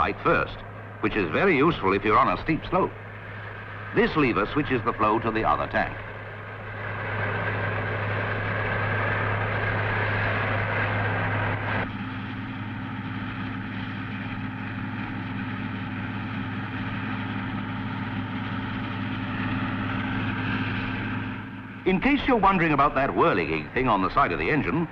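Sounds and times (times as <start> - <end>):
combine harvester engine drone: 0.0 - 24.9.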